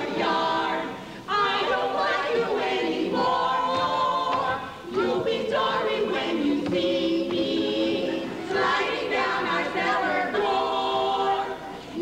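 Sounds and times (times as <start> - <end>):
chorus singing unaccompanied: 0.0 - 12.0.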